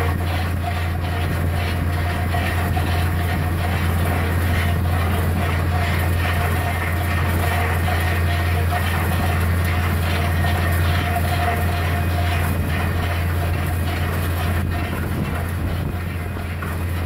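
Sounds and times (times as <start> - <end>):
drilling rig engine drone: 0.0 - 17.0
mid-pitched whine: 0.0 - 17.0
rough noisy wash: 0.0 - 17.0.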